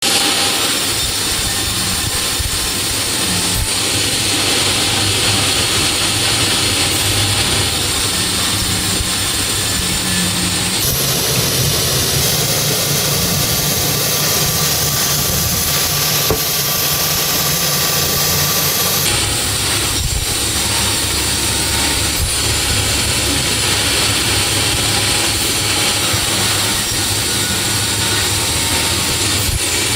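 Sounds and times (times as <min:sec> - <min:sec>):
sawmill machinery running: 0:00.0 - 0:29.9.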